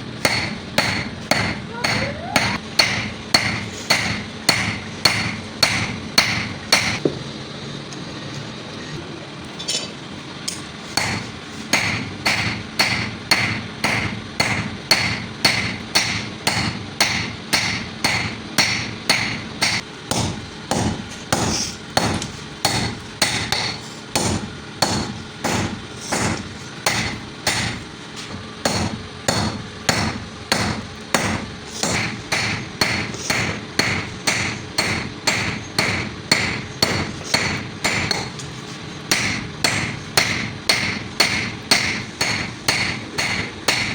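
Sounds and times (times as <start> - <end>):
hammer blows on hot steel: 0.0 - 7.2, 10.5 - 43.9.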